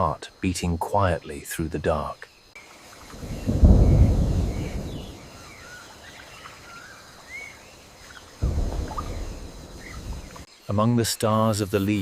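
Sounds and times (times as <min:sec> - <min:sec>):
night animals chirping: 0:00.0 - 0:12.0.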